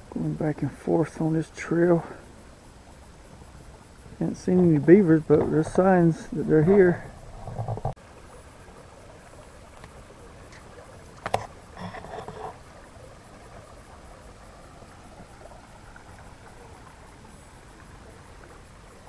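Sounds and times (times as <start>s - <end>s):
mountain stream flowing: 0.0s - 19.0s.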